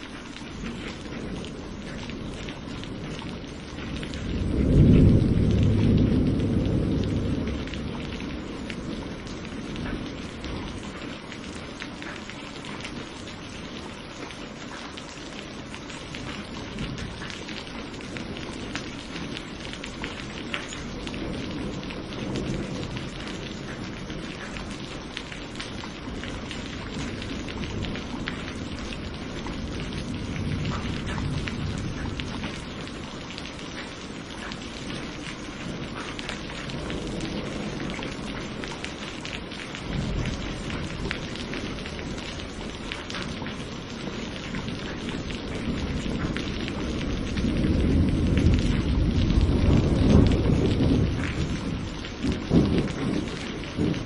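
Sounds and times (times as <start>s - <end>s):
thunder rumbling: 0.0s - 11.8s, 15.4s - 54.0s
steady rain: 0.0s - 54.0s.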